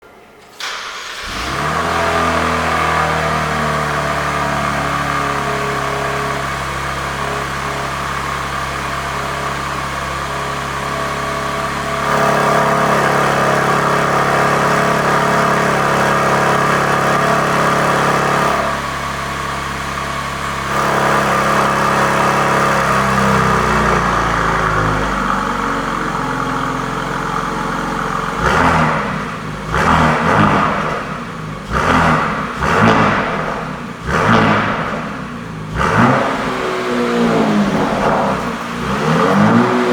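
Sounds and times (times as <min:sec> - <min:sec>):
car engine idling: 0:00.0 - 0:39.9
engine revs: 0:00.5 - 0:39.9.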